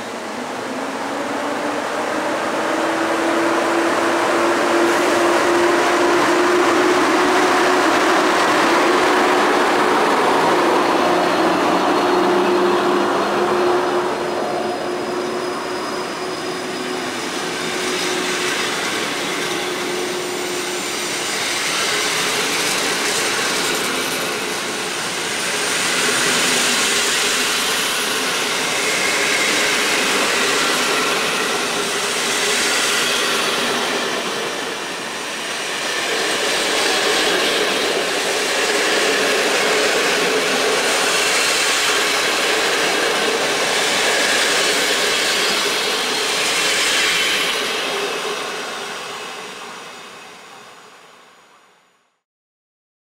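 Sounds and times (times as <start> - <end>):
electric locomotive hum rising: 0.0 - 51.3
passenger coaches rolling past: 0.0 - 51.6.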